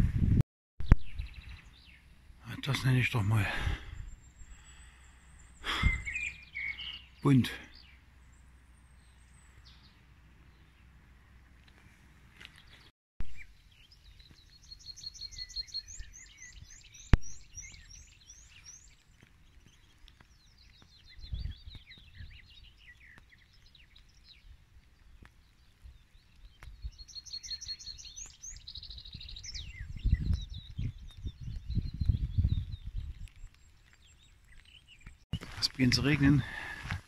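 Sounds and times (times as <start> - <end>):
songbirds chirping: 1.0 - 37.0.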